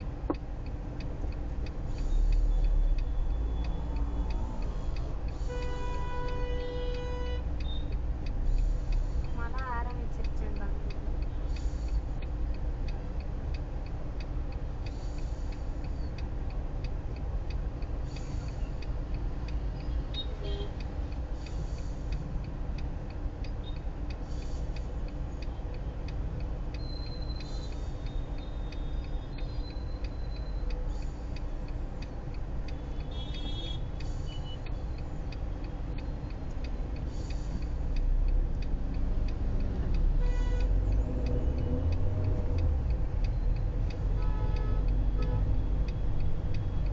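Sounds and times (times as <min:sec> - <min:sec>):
car engine and road rumble: 0:00.0 - 0:46.9
even ticking: 0:00.0 - 0:46.9.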